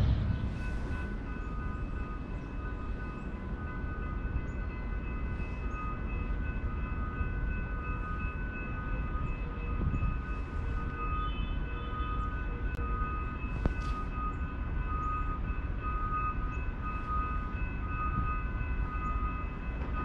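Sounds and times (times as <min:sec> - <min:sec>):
electric train high tones: 0:00.0 - 0:20.0
train low rumble: 0:00.0 - 0:20.0.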